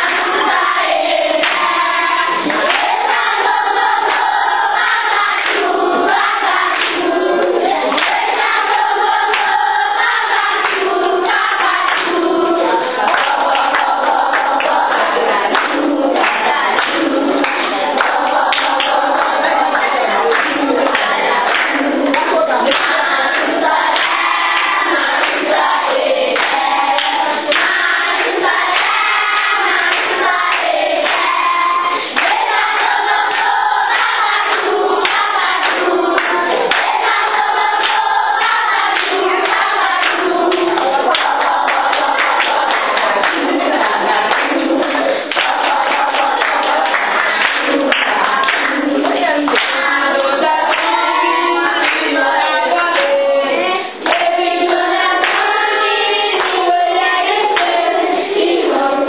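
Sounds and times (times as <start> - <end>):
children singing in a choir: 0.0 - 59.0
sharp claps: 1.4 - 5.8, 6.6 - 12.2, 13.0 - 25.7, 26.4 - 31.3, 31.9 - 53.3, 54.0 - 56.6.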